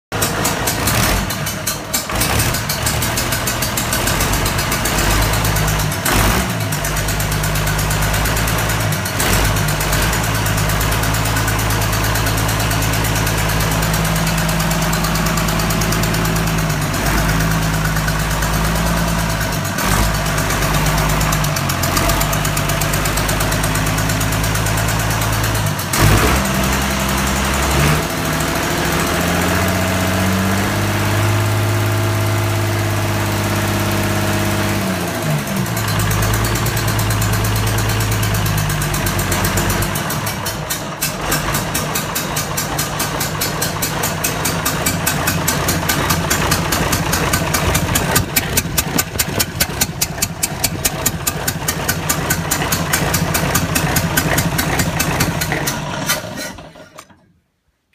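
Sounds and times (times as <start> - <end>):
diesel engine idling: 0.2 - 56.8.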